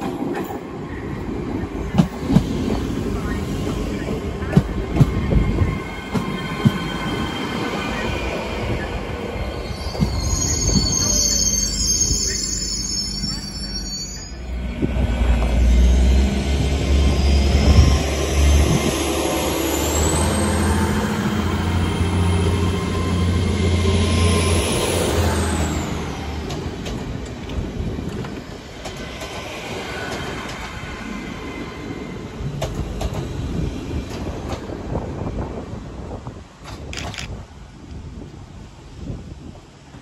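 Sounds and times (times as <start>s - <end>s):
train diesel engine drone: 0.0s - 36.9s.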